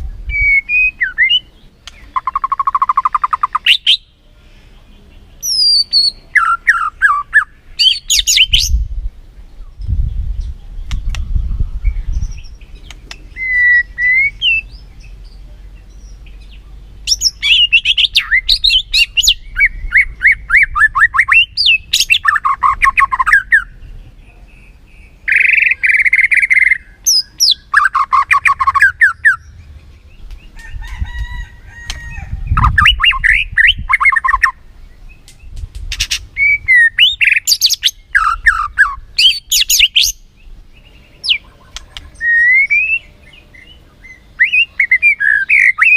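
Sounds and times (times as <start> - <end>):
songbird singing whistles and trills: 0.0 - 4.2, 5.4 - 31.3, 31.9 - 45.9.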